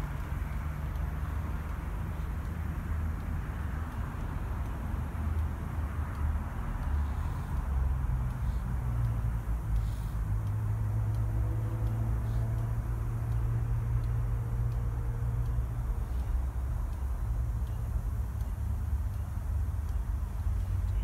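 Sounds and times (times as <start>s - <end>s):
distant diesel locomotive rumble: 0.0s - 21.0s.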